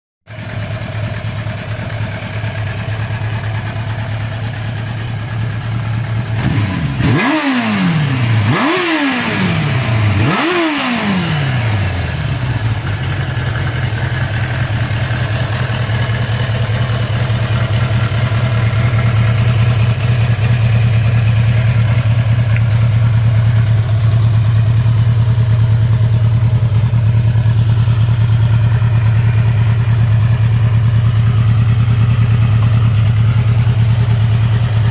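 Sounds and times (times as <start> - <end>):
motorcycle engine idling and revving: 0.3 - 34.9.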